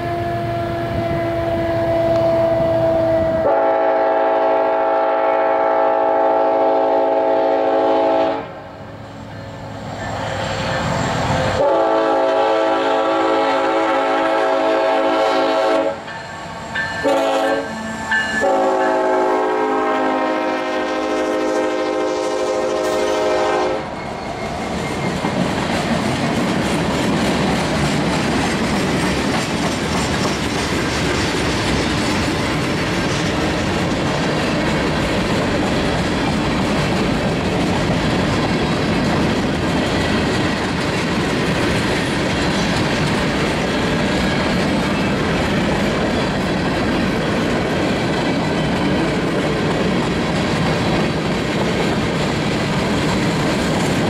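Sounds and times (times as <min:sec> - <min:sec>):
steel wheels on rails: 0:08.9 - 0:20.7, 0:22.1 - 0:54.0.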